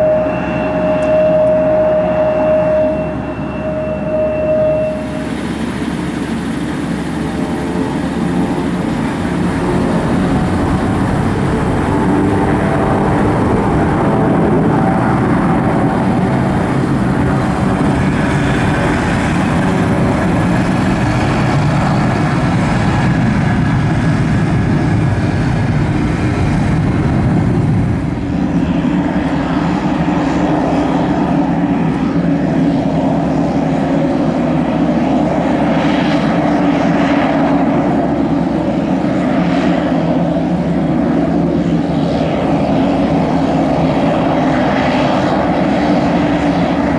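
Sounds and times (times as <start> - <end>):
helicopter turbine engines running: 0.0 - 46.9
propeller airplane taxiing: 0.0 - 46.9.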